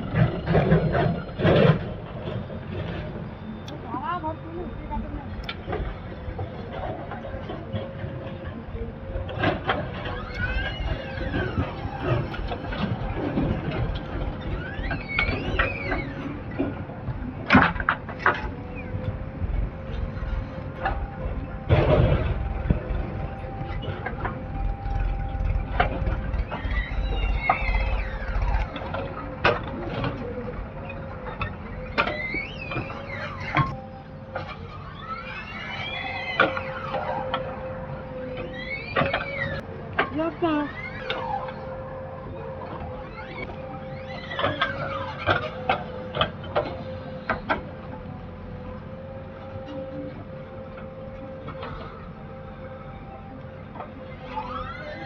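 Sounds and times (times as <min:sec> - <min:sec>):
diesel engine humming: 0:00.0 - 0:55.0
hydraulics whining: 0:00.0 - 0:55.0.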